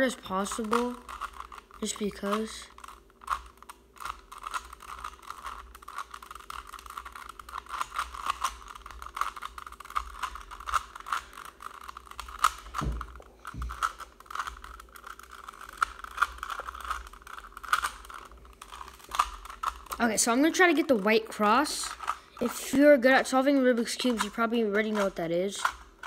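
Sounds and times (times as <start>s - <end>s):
puzzle cube clicking: 0.4s - 26.0s.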